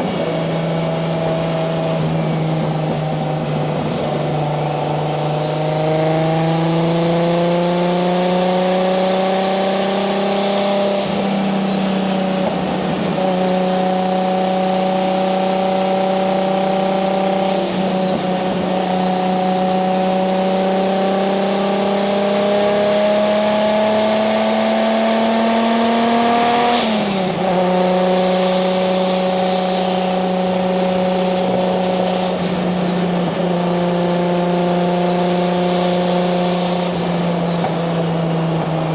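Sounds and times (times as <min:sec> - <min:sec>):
car engine running under load: 0:00.0 - 0:38.9.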